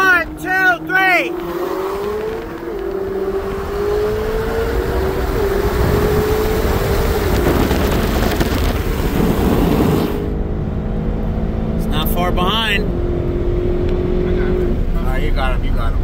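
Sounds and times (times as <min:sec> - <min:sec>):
car engine at full throttle: 0:00.0 - 0:16.0
road and wind noise: 0:00.0 - 0:16.0.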